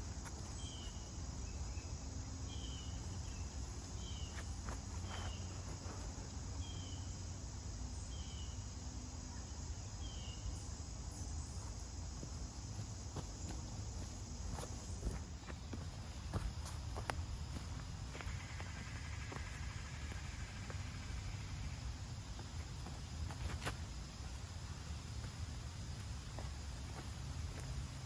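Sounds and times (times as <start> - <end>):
insect chorus buzzing: 0.0 - 28.0.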